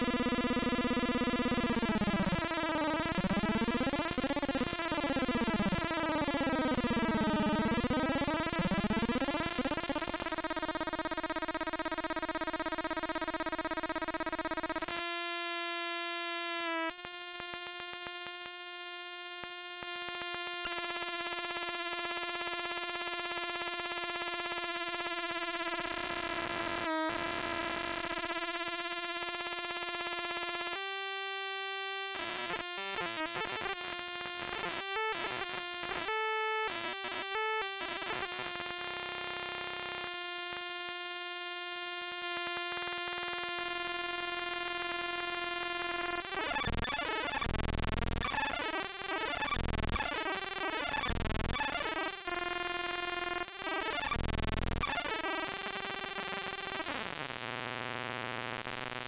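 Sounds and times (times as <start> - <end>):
buzzy electronic tone: 0.0 - 59.0.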